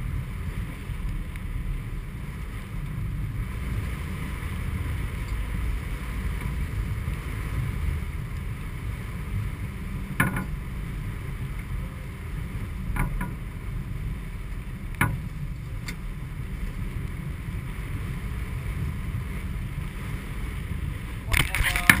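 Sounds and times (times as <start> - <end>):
water rushing along a hull: 0.0 - 22.0.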